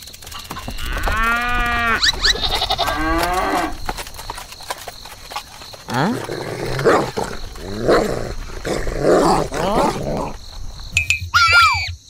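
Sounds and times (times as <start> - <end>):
farm animal calls: 0.3 - 12.0.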